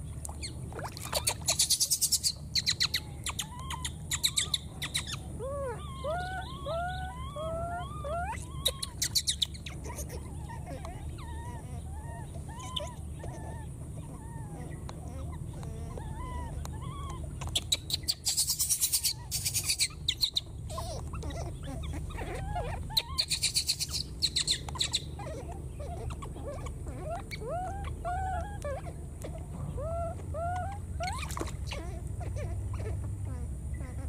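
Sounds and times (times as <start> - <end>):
baby monkey coo calls: 0.2 - 34.0.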